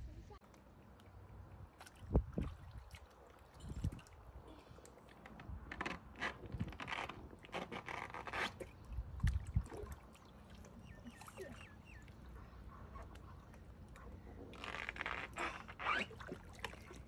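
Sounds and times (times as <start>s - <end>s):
water splashing and sloshing: 0.2s - 17.0s.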